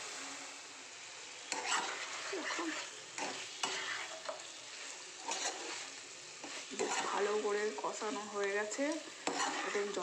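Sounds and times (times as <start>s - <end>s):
food sizzling in a wok: 0.0s - 10.0s
spatula scraping a pan: 1.4s - 10.0s.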